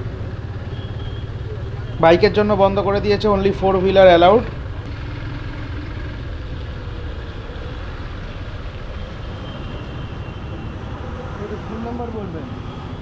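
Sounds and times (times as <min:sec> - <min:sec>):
motorcycle riding on road: 0:00.0 - 0:13.0.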